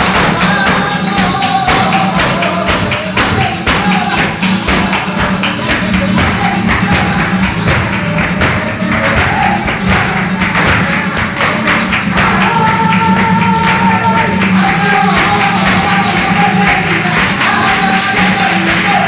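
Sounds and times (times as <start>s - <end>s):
dancers' footwork strikes: 0.0s - 19.0s
hand clapping: 0.0s - 19.0s
nylon-string guitar: 0.0s - 19.0s.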